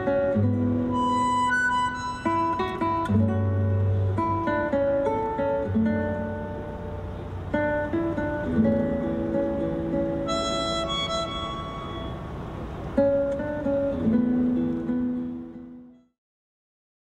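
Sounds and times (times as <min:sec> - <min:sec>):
high held melody line: 0:00.0 - 0:15.5
plucked acoustic guitar: 0:00.0 - 0:16.1.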